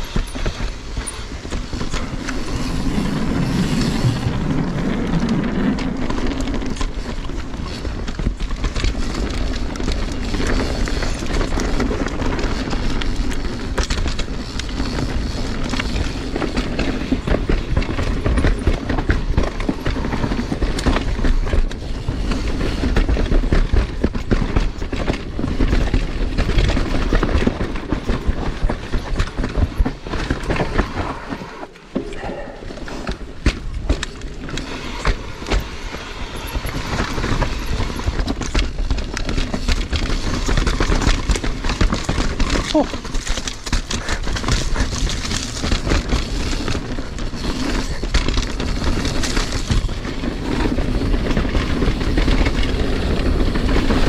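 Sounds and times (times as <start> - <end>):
bike rattling and clattering: 0.0 - 54.0
bike tyres rolling over rocks: 0.0 - 54.0.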